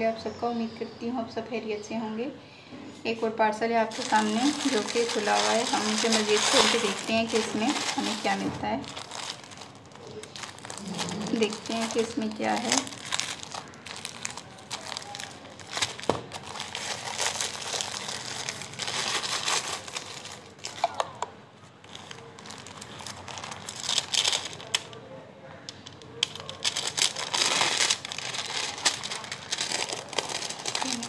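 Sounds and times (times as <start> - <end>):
plastic wrapping crinkling: 3.3 - 25.0, 25.7 - 31.0.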